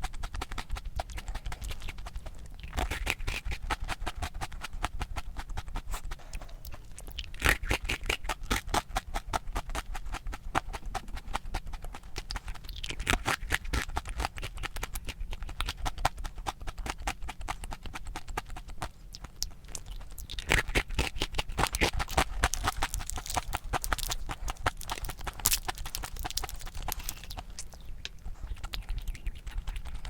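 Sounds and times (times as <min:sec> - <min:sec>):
crunchy chewing of ice cream cone: 0:00.0 - 0:30.0.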